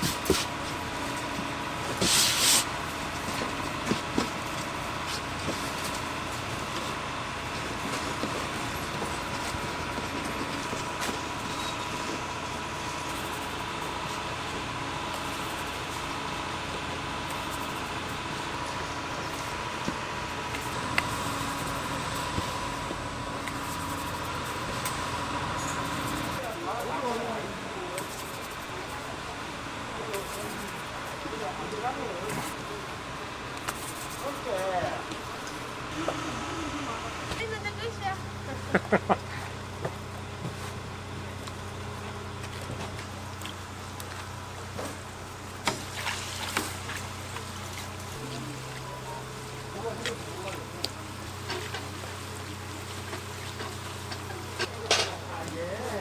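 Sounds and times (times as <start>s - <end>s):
high steady whine: 0.0s - 56.0s
mechanical hum and hiss: 0.0s - 56.0s.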